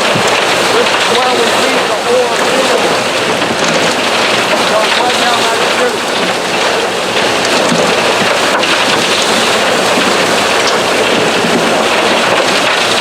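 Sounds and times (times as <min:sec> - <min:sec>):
water rushing through wash plant: 0:00.0 - 0:13.0.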